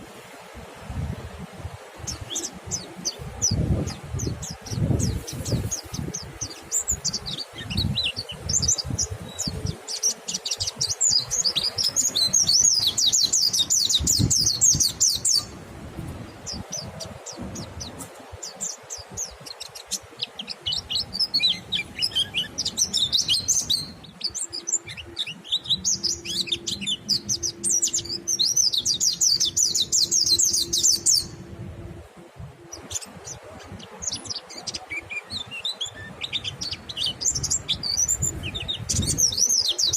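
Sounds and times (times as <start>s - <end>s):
bird twittering song: 2.0s - 15.6s, 16.2s - 31.6s, 32.6s - 39.9s
bird chirps: 4.2s - 15.6s, 16.5s - 31.4s, 32.7s - 39.9s.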